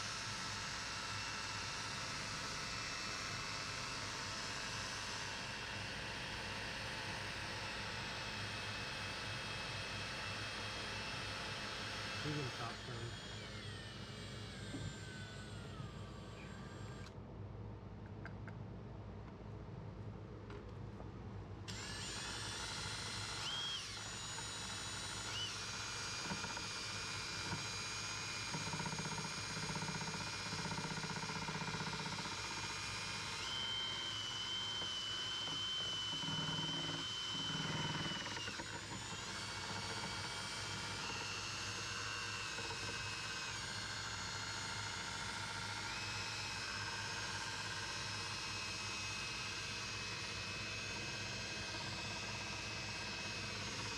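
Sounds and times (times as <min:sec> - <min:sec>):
electric power tool whining: 0:00.0 - 0:17.1, 0:21.7 - 0:53.9.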